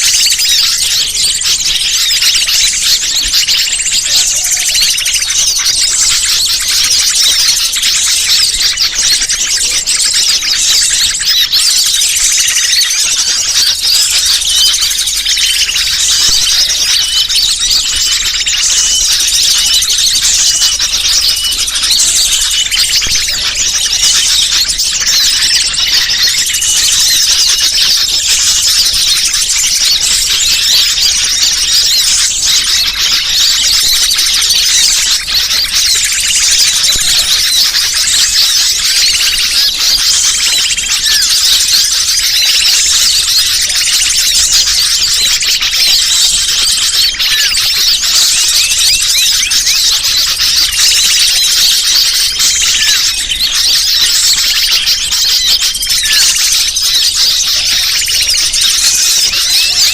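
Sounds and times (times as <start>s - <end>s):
small birds chirping and twittering: 0.0s - 59.9s.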